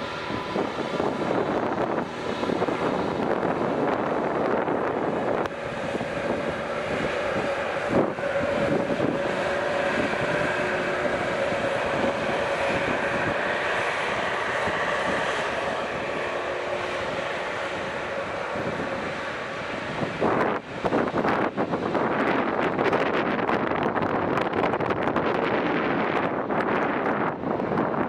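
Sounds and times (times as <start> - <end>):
rushing noise: 0.0 - 27.9
airplane engines droning: 0.0 - 28.0
high engine whine: 0.0 - 28.0.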